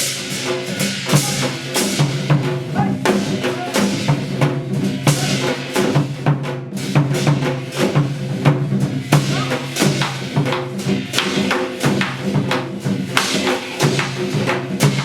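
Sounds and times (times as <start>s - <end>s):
drums and percussion beat: 0.0s - 15.0s.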